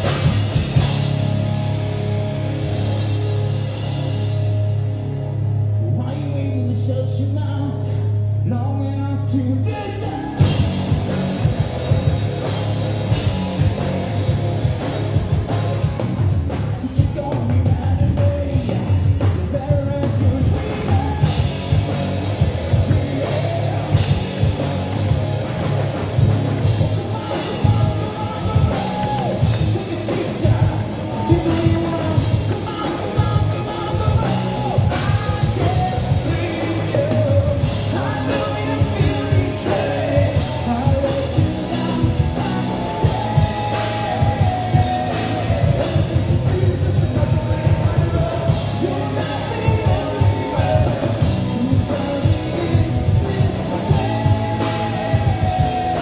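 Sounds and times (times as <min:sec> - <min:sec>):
drums: 0:00.0 - 0:56.0
electric guitars: 0:00.0 - 0:56.0
man singing: 0:05.8 - 0:14.2, 0:16.5 - 0:25.1, 0:26.6 - 0:56.0.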